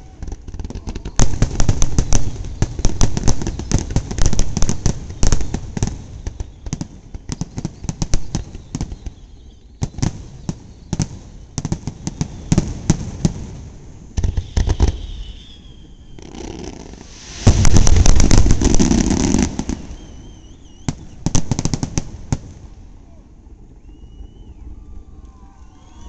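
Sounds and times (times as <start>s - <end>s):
firework whistle: 0.0s - 12.9s, 14.2s - 22.0s, 23.0s - 26.0s
firework booms: 0.0s - 23.9s
firework bangs and crackles: 0.0s - 26.0s.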